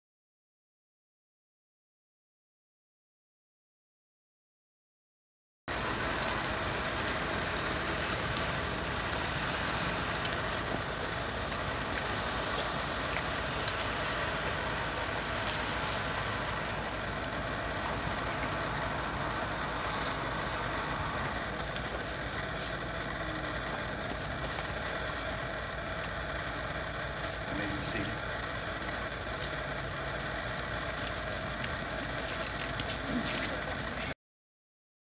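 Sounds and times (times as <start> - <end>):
rushing outdoor background noise: 5.7 - 34.2.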